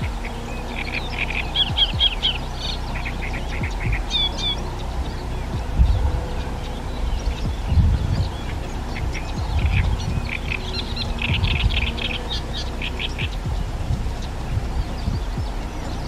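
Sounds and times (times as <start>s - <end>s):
low uneven rumble: 0.0s - 16.0s
warbler singing: 0.0s - 16.0s.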